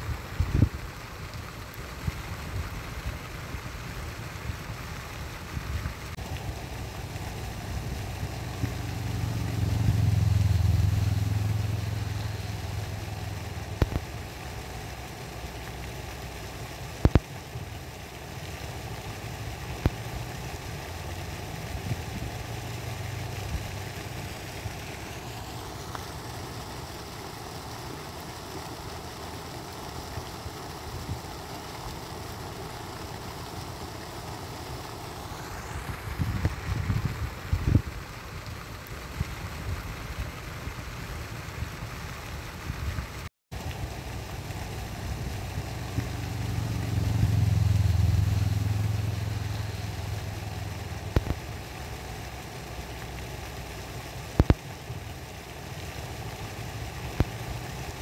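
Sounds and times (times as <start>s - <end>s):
outdoor background hiss: 0.0s - 58.0s
vehicle engine rumble: 4.3s - 58.0s.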